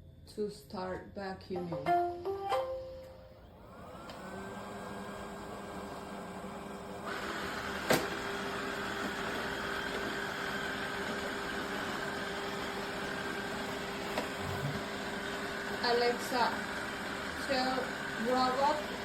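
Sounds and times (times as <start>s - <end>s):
robot vacuum whirring hum: 3.4s - 19.0s.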